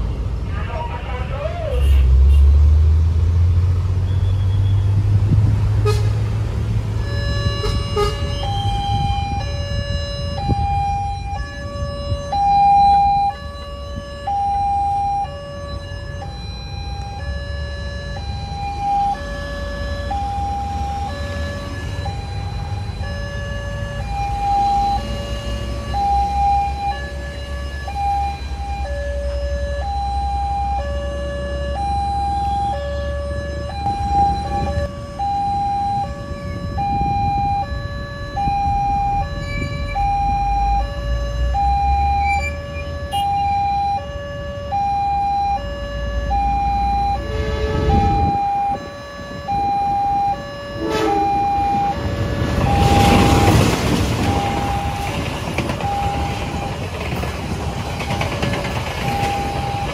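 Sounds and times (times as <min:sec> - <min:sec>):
road traffic rumble: 0:00.0 - 0:59.9
two-tone level crossing siren: 0:06.9 - 0:59.9.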